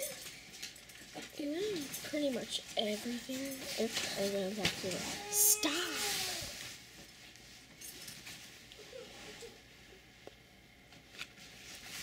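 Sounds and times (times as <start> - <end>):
faint rustles: 0.0 - 9.8.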